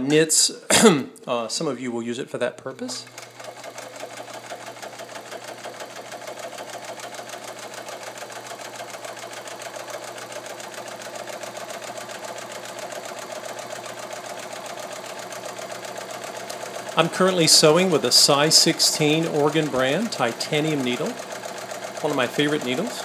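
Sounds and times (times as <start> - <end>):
sewing machine stitching: 2.8 - 23.0.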